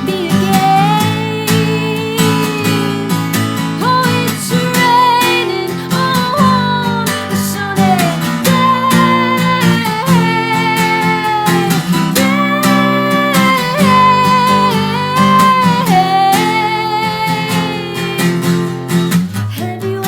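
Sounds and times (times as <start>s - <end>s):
strummed acoustic guitar: 0.0s - 20.0s
woman singing: 0.0s - 20.0s.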